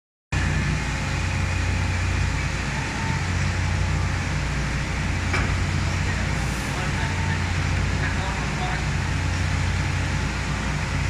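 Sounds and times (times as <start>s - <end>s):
low engine rumble: 0.4s - 11.0s.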